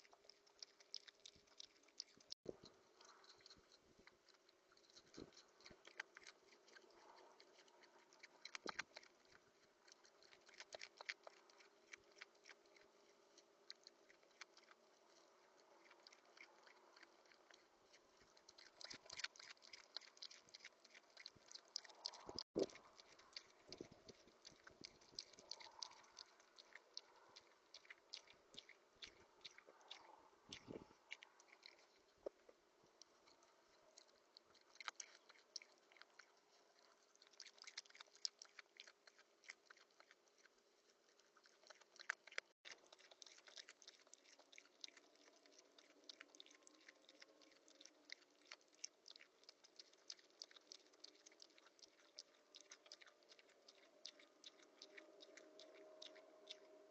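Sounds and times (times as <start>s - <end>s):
rodent chewing and cracking seeds: 0.0s - 56.9s.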